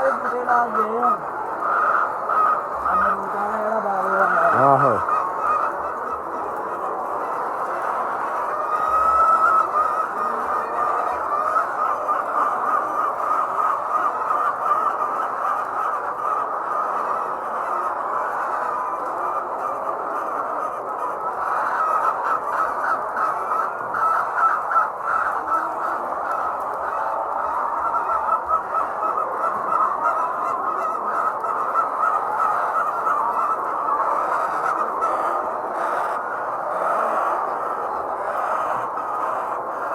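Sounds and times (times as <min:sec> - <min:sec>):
hens clucking and squawking: 0:00.0 - 0:39.9.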